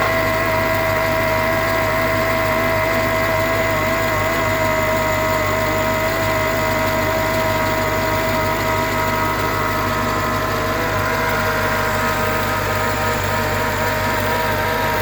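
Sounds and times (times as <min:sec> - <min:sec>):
car engine idling: 0:00.0 - 0:15.0
high whirring whine: 0:00.0 - 0:15.0.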